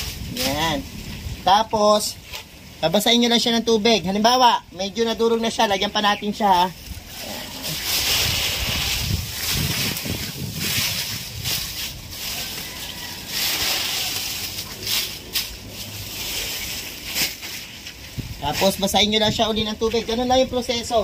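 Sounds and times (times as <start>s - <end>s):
dry leaves pouring and rustling: 0.0s - 21.0s
leaves crackling: 0.0s - 21.0s.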